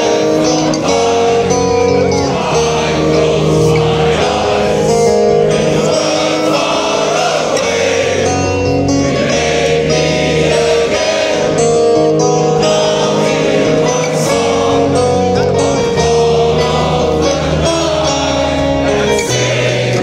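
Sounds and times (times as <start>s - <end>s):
choir-like singing over held chords: 0.0s - 20.0s.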